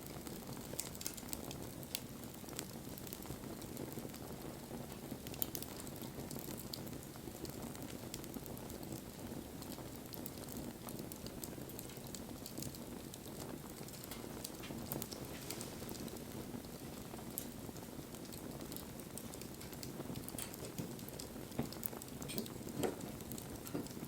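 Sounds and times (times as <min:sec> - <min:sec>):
fire crackles and pops: 0:00.0 - 0:24.0
flames rushing: 0:00.0 - 0:24.0.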